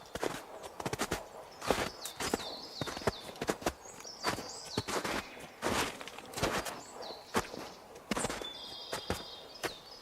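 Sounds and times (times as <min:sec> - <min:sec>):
footsteps crunching on trail: 0:00.0 - 0:10.0.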